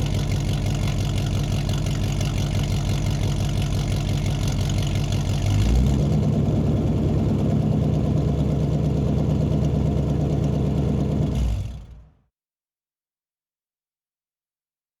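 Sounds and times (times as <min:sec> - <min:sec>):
car engine deep rumble: 0:00.0 - 0:12.1.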